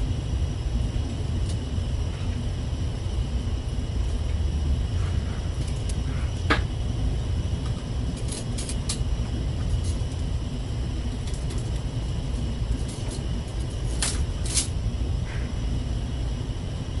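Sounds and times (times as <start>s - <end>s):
low rumble of ship cabin: 0.0s - 17.0s.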